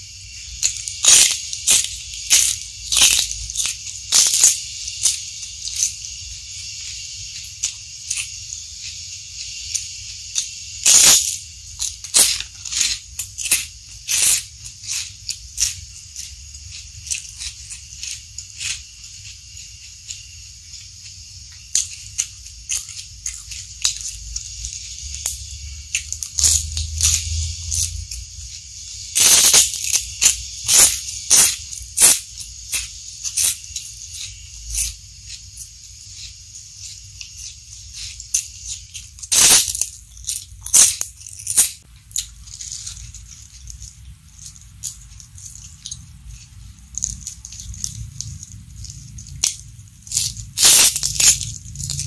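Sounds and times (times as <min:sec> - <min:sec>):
crunchy food chewing: 0:00.2 - 0:52.0.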